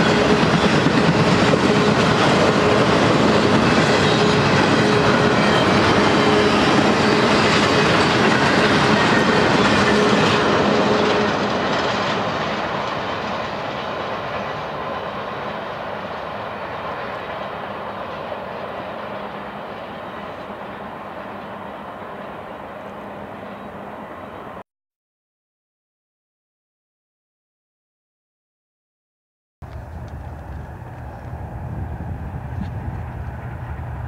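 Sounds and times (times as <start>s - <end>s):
freight train wheels on rails: 0.0s - 24.6s, 29.6s - 34.0s.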